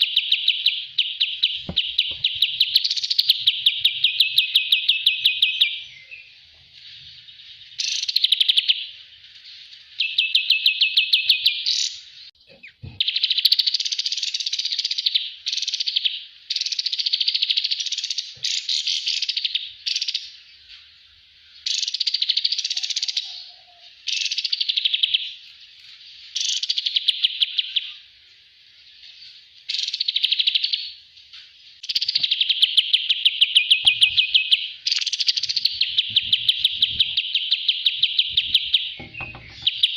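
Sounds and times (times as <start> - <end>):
songbird singing trills: 0.0 - 31.0, 31.7 - 39.9.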